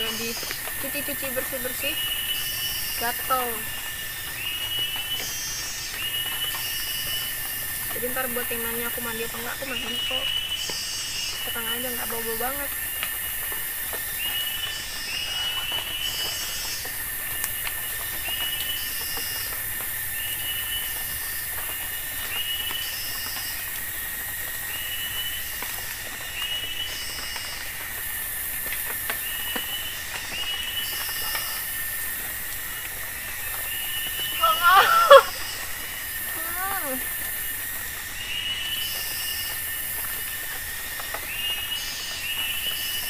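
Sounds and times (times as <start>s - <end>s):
insect chorus buzzing: 0.0s - 43.0s.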